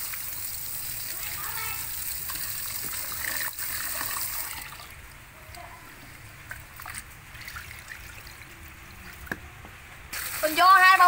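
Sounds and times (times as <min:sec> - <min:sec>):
tap water trickling: 0:00.0 - 0:04.9, 0:06.5 - 0:10.7.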